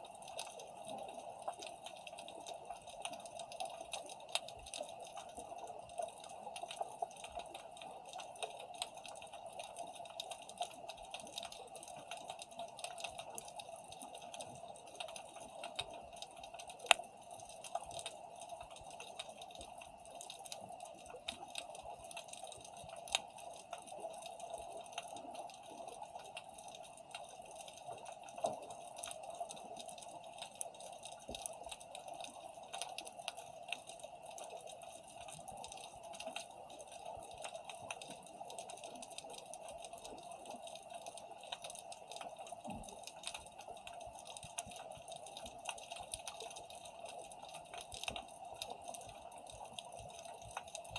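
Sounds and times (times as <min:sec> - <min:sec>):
crackling clicks underwater: 0:00.0 - 0:50.9.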